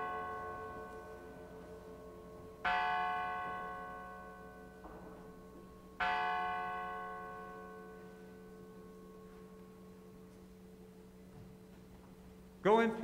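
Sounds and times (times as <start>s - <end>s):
church bell ringing: 0.0s - 13.0s.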